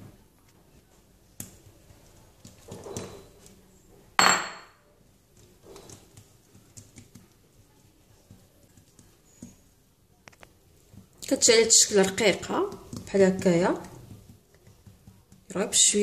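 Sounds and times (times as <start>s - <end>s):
hands patting wet dough: 0.0s - 4.0s, 5.0s - 16.0s.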